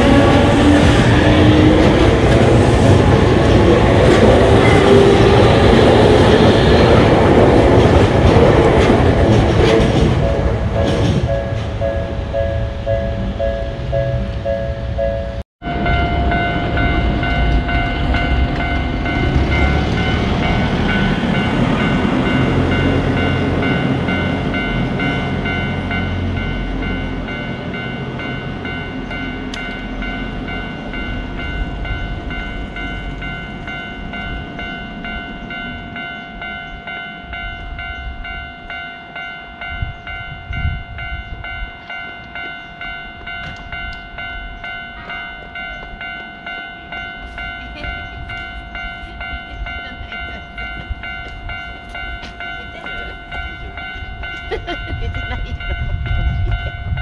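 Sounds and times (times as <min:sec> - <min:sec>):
level crossing warning bell: 0:00.0 - 0:57.0
train rumbling: 0:00.0 - 0:57.0.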